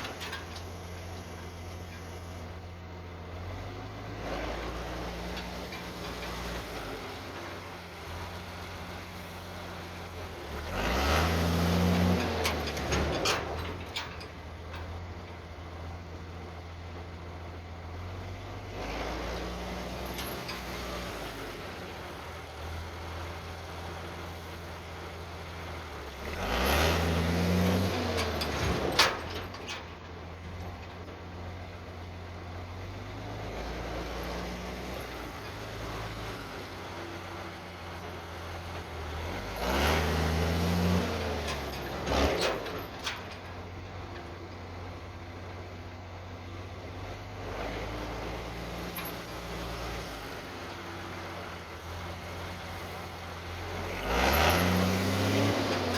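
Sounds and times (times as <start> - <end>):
diesel truck engine revving: 0.0 - 14.2, 17.9 - 30.1, 31.4 - 45.2, 46.5 - 55.9.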